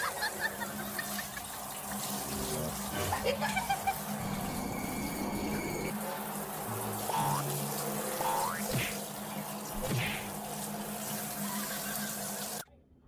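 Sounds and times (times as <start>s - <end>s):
shower head spraying water: 0.0s - 12.6s.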